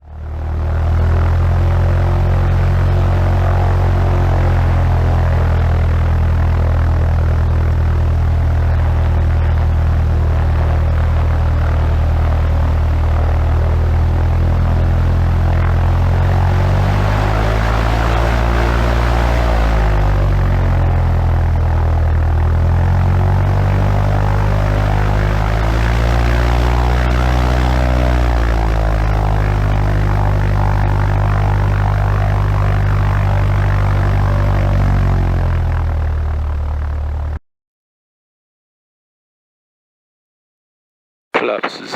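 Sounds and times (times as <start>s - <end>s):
light aircraft engine drone: 0.0s - 37.4s.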